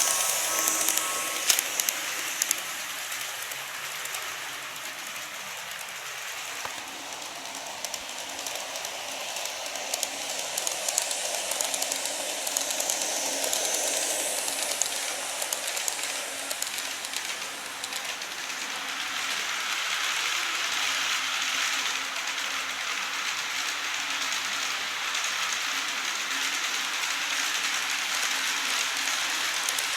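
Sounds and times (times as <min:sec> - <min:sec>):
model train wheels hissing: 0:00.0 - 0:29.9.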